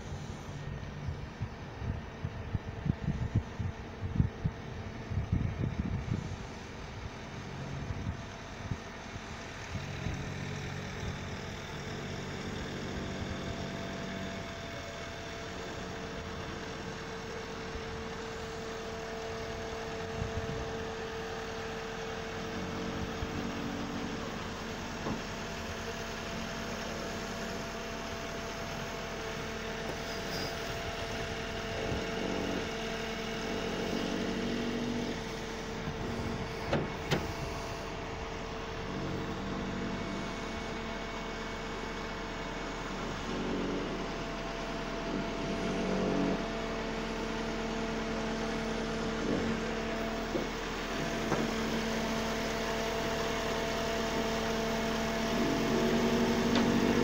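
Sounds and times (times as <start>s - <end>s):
engine and hydraulic hum: 0.0s - 57.0s.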